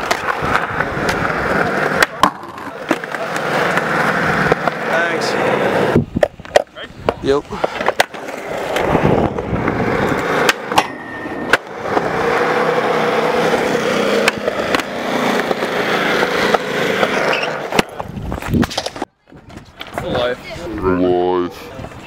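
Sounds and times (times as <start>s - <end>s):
skateboard clacks: 0.0s - 13.1s, 14.2s - 20.2s
skateboard wheels rolling on concrete: 0.0s - 22.0s.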